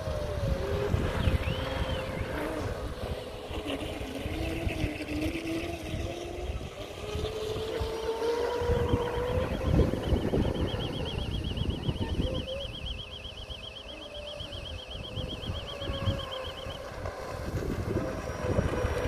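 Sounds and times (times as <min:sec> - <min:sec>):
high warbling tone: 0:00.0 - 0:19.0
model boat motor whine: 0:00.0 - 0:19.0.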